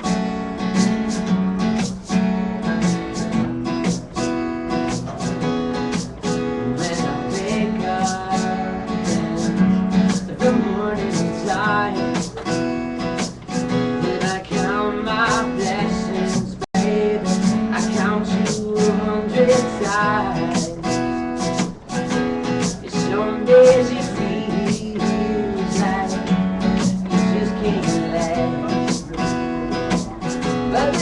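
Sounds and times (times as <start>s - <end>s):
acoustic guitar strummed: 0.0s - 31.0s.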